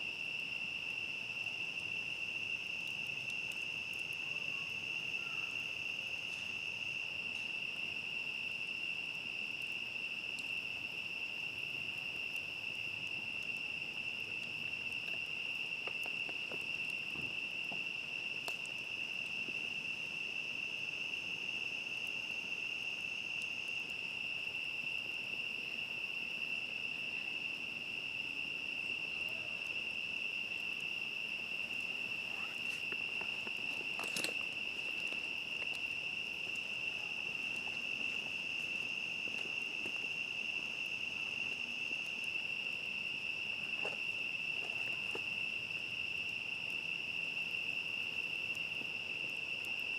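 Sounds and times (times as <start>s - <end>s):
campfire crackling: 0.0s - 49.9s
crickets trilling: 0.0s - 49.9s.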